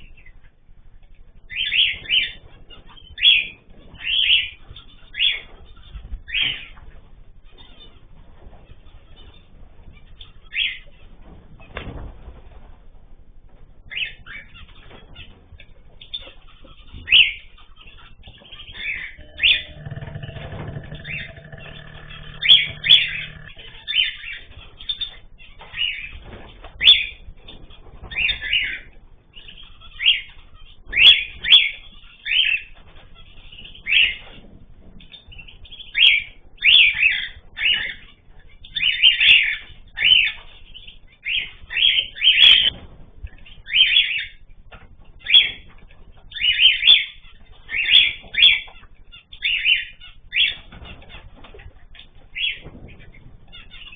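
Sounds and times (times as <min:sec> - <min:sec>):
cage birds chirping: 0:00.0 - 0:12.7, 0:13.3 - 0:53.9.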